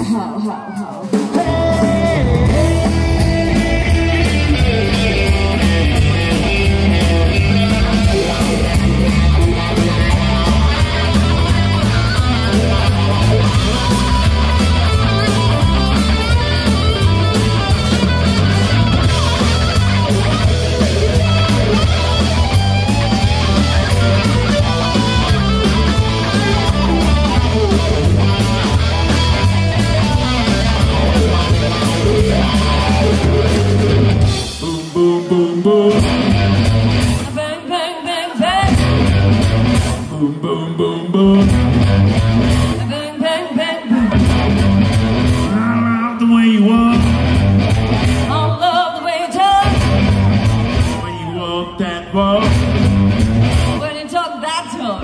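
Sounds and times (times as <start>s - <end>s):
drum kit: 0.0s - 37.7s, 38.4s - 40.4s, 41.1s - 43.0s, 43.8s - 48.5s, 49.4s - 54.1s
bass guitar: 0.0s - 55.0s
electric guitars: 0.0s - 55.0s.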